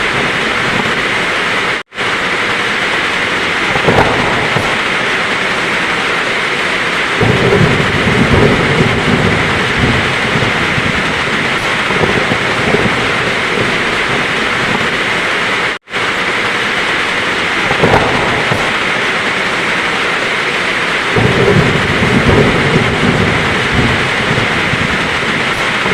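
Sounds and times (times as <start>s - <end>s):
heavy rain falling: 0.0s - 25.9s
low rumble of thunder: 2.8s - 15.7s, 16.5s - 25.9s.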